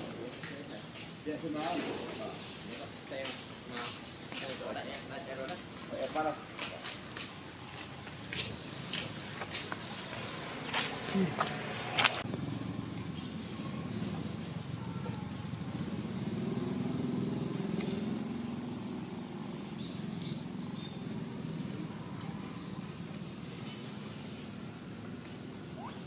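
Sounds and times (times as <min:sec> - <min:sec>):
distant motor vehicle rumble: 0:00.0 - 0:26.0.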